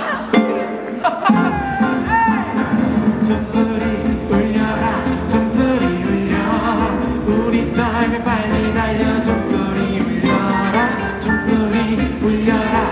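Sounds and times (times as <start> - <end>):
live band music: 0.3 - 12.9.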